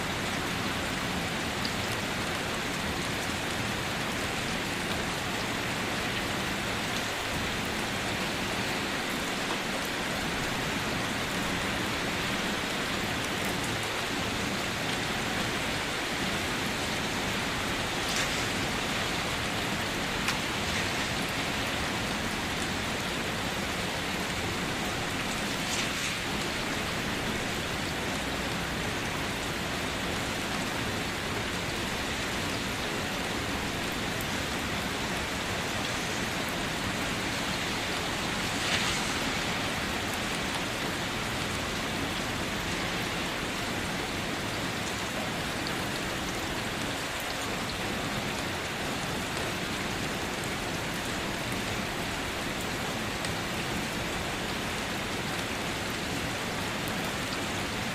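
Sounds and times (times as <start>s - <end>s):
raindrops pattering: 0.0s - 57.9s
steady rain hiss: 0.0s - 57.9s.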